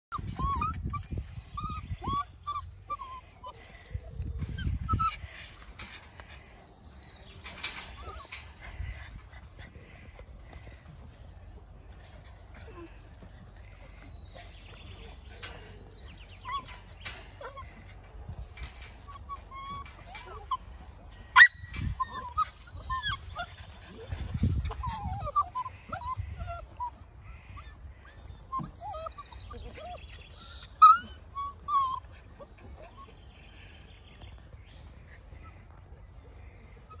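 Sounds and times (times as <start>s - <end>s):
puppies whimpering and yipping: 0.1s - 37.0s.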